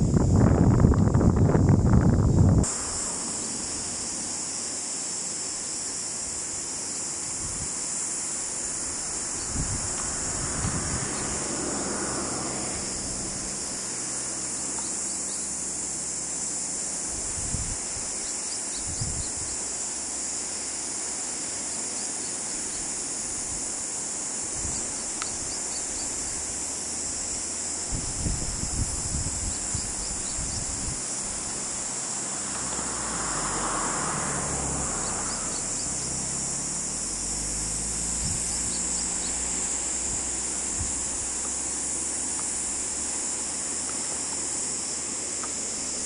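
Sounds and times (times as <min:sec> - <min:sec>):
insects buzzing: 0:00.0 - 0:46.0.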